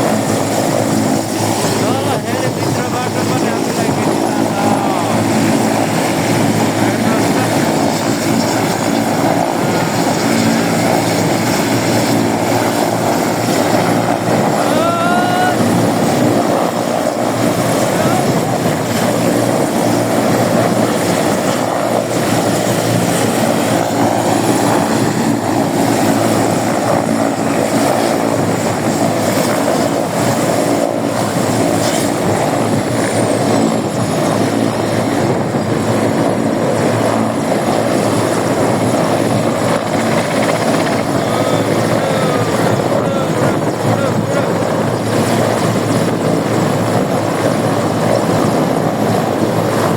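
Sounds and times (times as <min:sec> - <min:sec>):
helicopter engine and rotor: 0:00.0 - 0:49.9.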